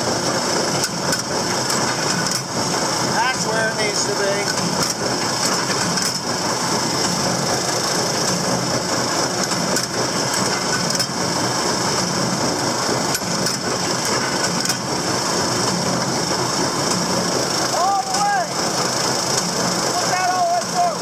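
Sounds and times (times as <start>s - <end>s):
baler mechanical clatter: 0.0s - 21.0s
tractor engine: 0.0s - 21.0s.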